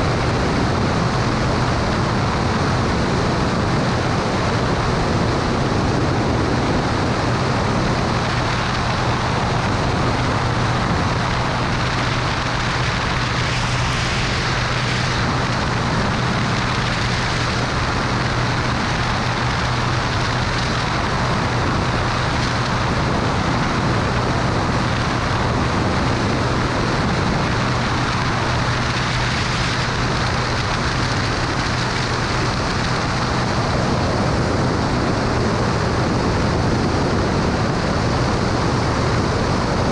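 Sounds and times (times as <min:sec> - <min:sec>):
airplane engine and propeller drone: 0:00.0 - 0:39.9
rushing air noise: 0:00.0 - 0:39.9.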